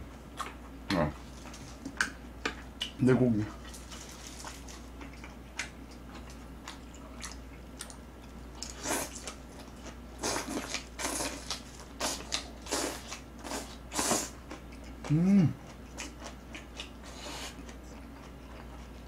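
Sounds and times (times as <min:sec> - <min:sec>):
wet chewing: 0:03.6 - 0:19.0.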